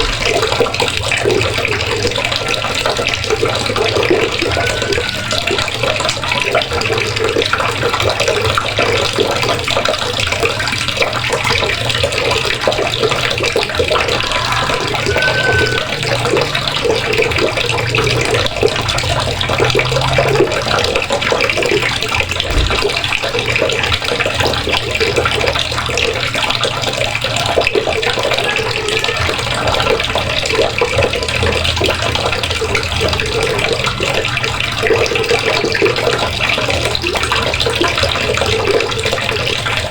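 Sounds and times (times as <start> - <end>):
water running from a faucet: 0.0 - 39.9.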